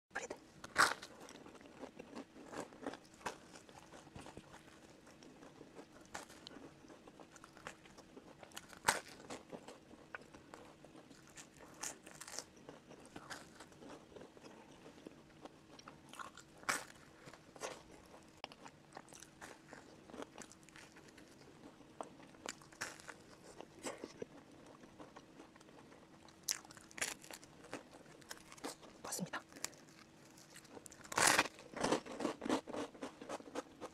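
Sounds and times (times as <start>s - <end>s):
chewing: 0.6s - 33.9s
crunching bites of toast: 0.6s - 33.9s.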